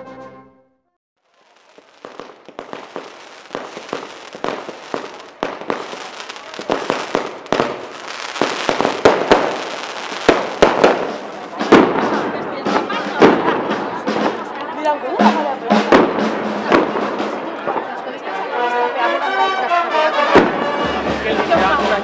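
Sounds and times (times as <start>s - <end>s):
fireworks crackling and banging: 1.2s - 18.5s, 20.2s - 22.0s.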